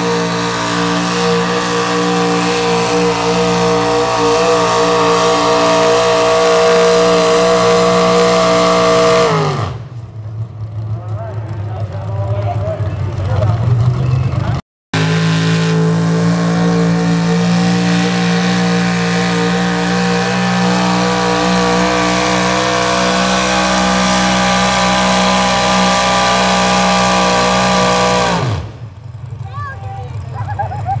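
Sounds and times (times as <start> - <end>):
truck engine running flat out: 0.0 - 31.0.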